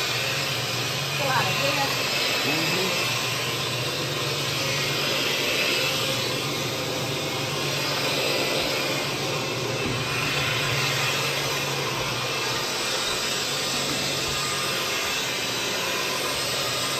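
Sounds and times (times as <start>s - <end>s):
carpet cleaning machine rushing: 0.0s - 16.9s.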